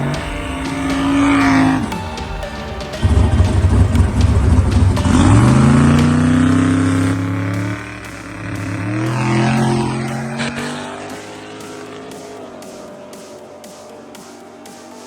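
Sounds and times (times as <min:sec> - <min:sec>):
drag race car full throttle: 0:00.0 - 0:15.0.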